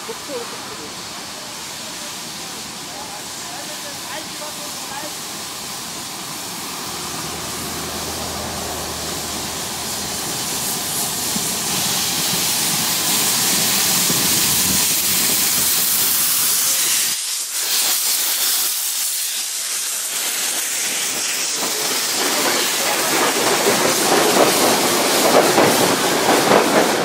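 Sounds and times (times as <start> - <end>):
locomotive rumble: 0.0 - 17.0, 20.2 - 27.0
steam hissing: 0.0 - 27.0.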